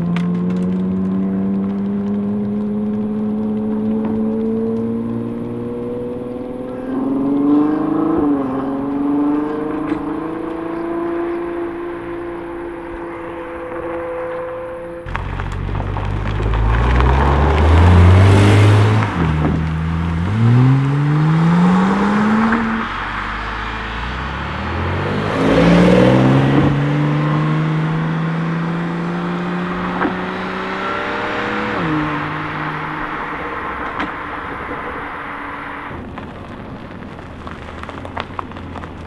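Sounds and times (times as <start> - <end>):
car engine accelerating hard: 0.0 - 39.0.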